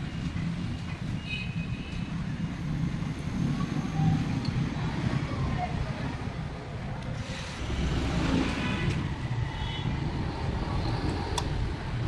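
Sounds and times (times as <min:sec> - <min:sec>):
motor vehicles rumbling: 0:00.0 - 0:12.0.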